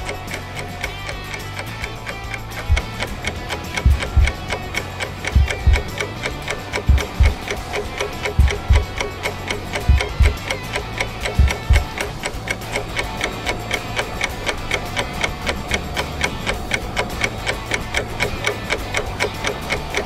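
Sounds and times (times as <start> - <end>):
clock ticking: 0.0 - 20.0
light background music: 0.0 - 20.0
low thumps: 0.0 - 20.0.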